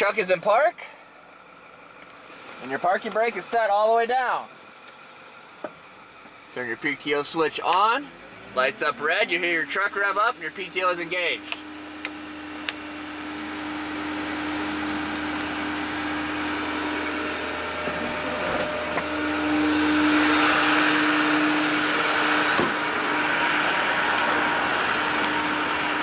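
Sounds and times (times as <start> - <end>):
truck engine at raised idle: 0.1 - 26.0.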